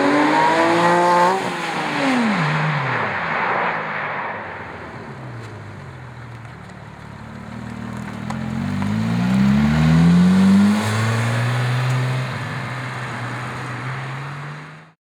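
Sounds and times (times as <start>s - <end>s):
sports car accelerating hard: 0.0s - 5.8s, 7.4s - 15.0s.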